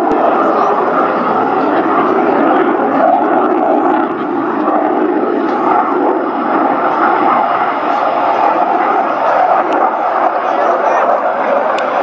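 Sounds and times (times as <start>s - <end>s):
fighter jet flying overhead: 0.0s - 12.0s.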